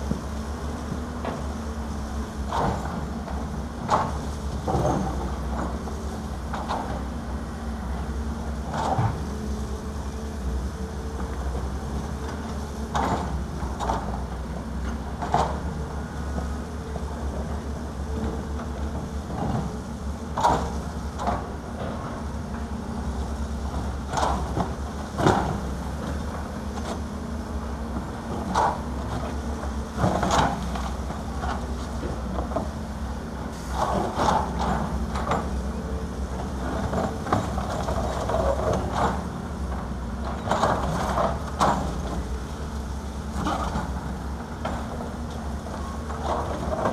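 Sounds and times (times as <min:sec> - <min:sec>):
diesel excavator engines: 0:00.0 - 0:46.9.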